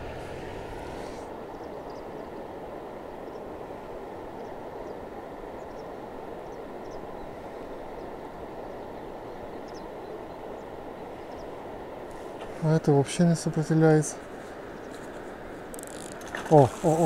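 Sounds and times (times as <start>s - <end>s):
low rushing background noise: 0.0s - 17.0s.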